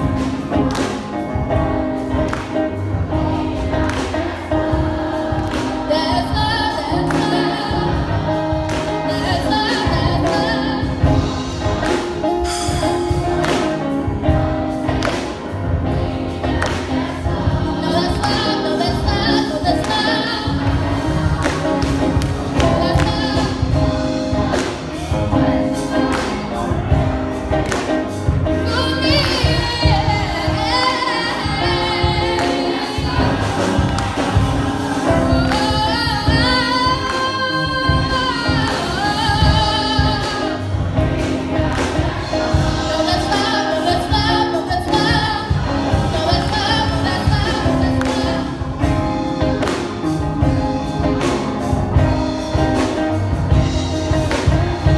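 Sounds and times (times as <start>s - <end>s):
drums and bass beat: 0.0s - 54.9s
gospel choir singing: 0.0s - 54.9s.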